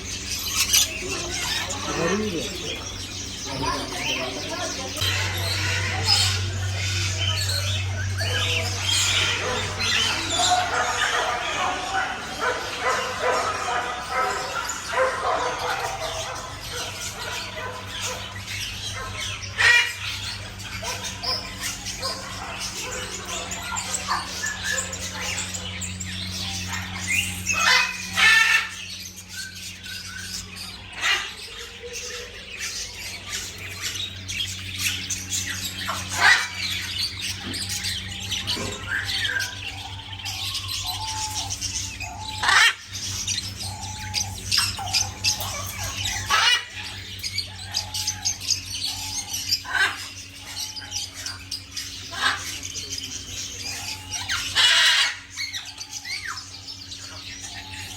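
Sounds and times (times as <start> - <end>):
bird squawks: 0.0 - 57.9
caged birds calling: 0.0 - 57.9
steady low hum: 0.0 - 57.9.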